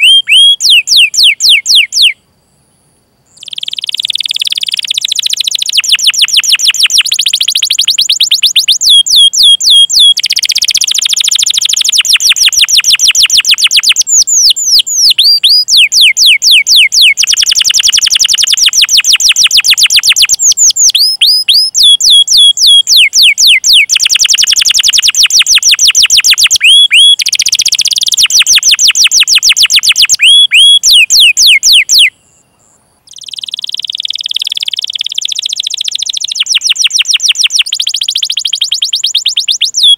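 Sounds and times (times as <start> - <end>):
canary singing trills: 0.0 - 2.2, 3.3 - 39.9.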